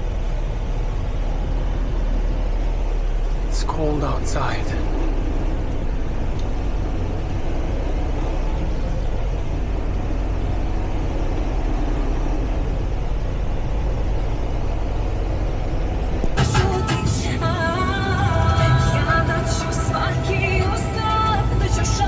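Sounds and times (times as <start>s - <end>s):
road noise: 0.0s - 22.0s
truck engine drone: 0.0s - 22.0s.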